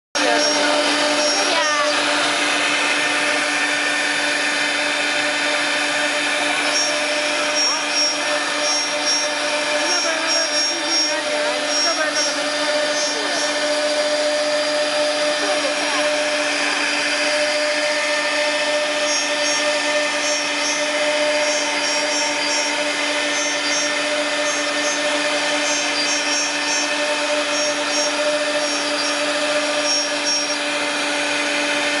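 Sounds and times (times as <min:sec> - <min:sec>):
router spindle whine: 0:00.2 - 0:32.0
rushing cutting and extraction noise: 0:00.2 - 0:32.0.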